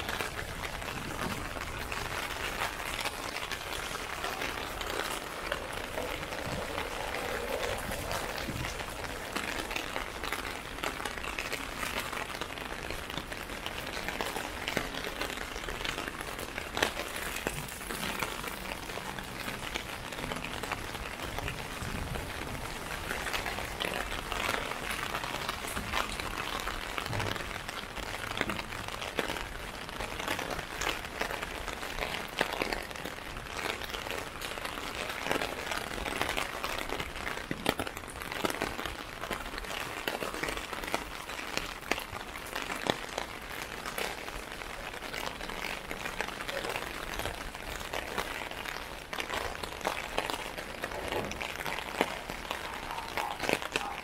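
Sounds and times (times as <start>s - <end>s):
heavy drips: 0.0s - 54.0s
rain on plastic umbrella: 0.0s - 54.0s.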